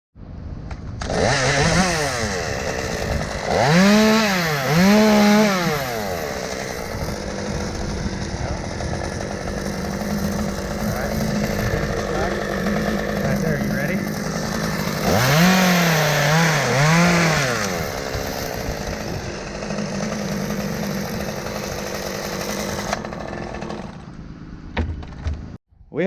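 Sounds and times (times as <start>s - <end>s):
chainsaw engine revving: 1.0s - 24.7s.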